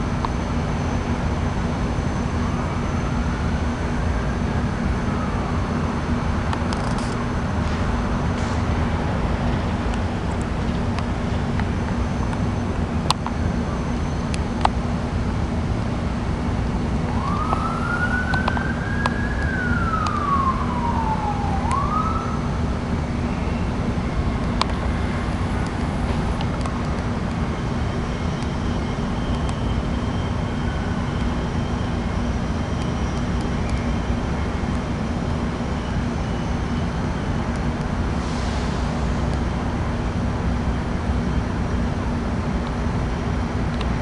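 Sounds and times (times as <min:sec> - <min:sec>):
distant siren: 0:00.0 - 0:38.8
air conditioner running: 0:00.0 - 0:44.0.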